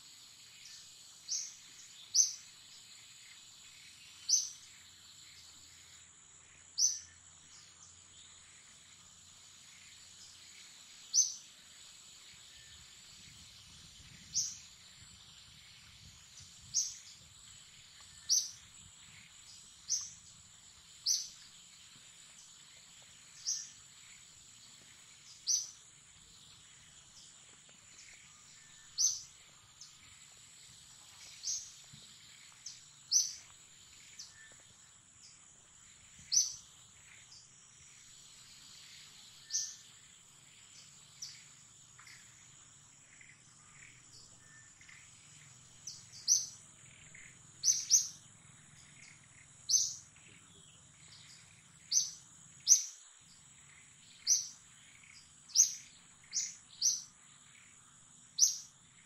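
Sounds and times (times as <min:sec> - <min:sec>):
bird chirping: 0:00.0 - 0:59.0
insects droning: 0:00.0 - 0:59.0.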